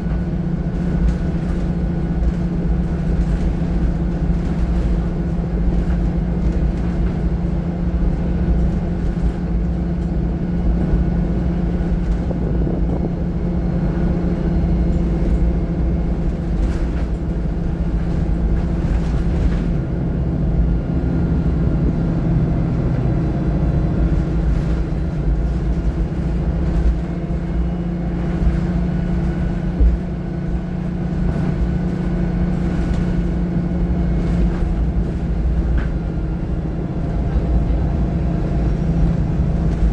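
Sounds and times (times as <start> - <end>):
bus body rattles: 0.0 - 39.9
bus diesel engine running: 0.0 - 39.9
road rumble: 0.0 - 39.9.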